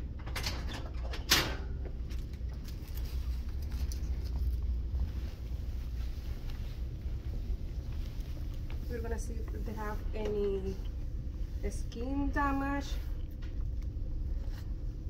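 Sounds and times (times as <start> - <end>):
steady low hum: 0.0 - 15.0
soft rustles: 2.1 - 15.0.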